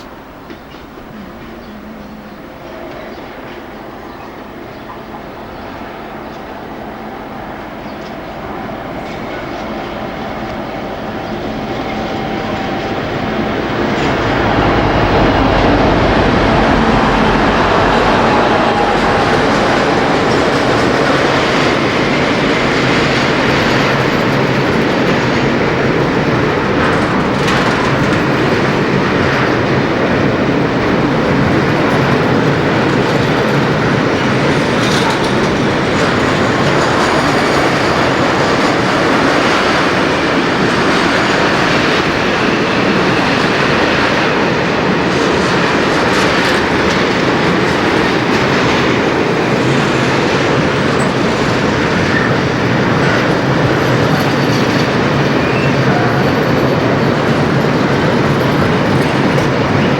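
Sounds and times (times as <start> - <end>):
freight train wheels clattering: 0.0 - 59.9.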